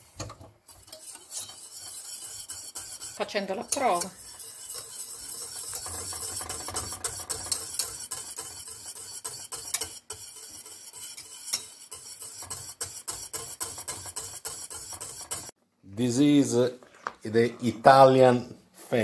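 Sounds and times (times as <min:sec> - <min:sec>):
whisk wires clicking on pan: 0:00.0 - 0:15.5
whisk swishing in a saucepan: 0:00.0 - 0:15.6.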